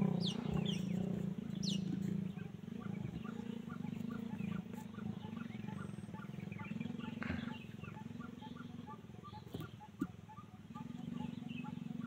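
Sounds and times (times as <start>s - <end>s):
low pulsing drone: 0.0s - 12.0s.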